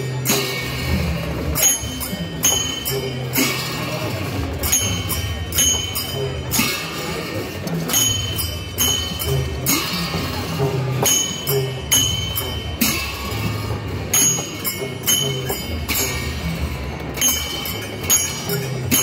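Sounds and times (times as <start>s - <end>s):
metal cymbal clashes: 0.0s - 19.0s.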